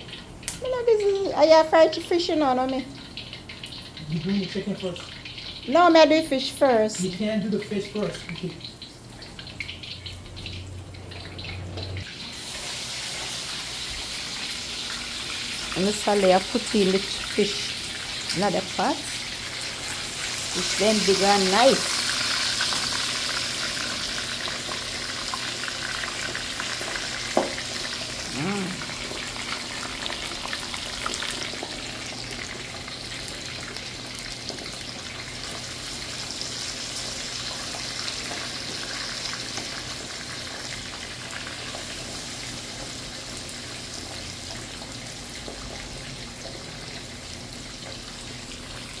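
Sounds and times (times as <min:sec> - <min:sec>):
fish sizzling in hot oil: 0:00.0 - 0:49.0.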